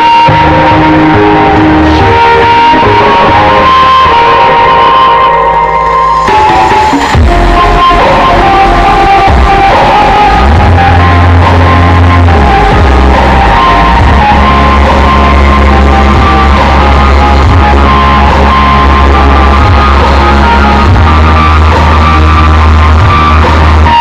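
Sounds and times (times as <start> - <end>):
loud music with deep bass: 0.0 - 24.0.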